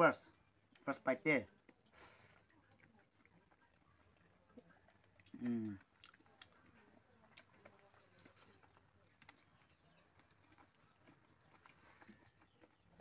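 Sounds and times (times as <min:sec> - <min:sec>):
wet chewing mouth sounds: 0:01.5 - 0:13.0.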